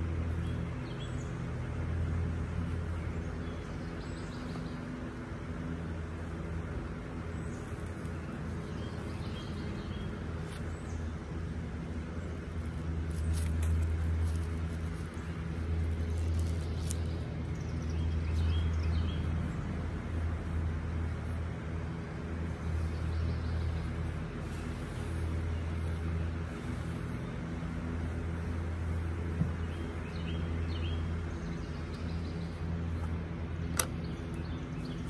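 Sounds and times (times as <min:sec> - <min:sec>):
electric fan humming: 0:00.0 - 0:35.0.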